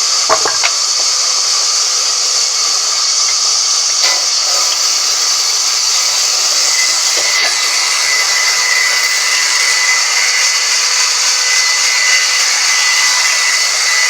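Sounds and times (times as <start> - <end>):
band saw running: 0.0 - 14.0.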